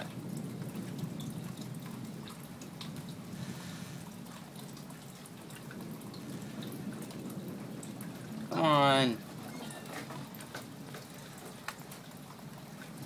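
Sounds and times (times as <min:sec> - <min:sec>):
rain dripping: 0:00.0 - 0:13.0
steady rain hiss: 0:00.0 - 0:13.0.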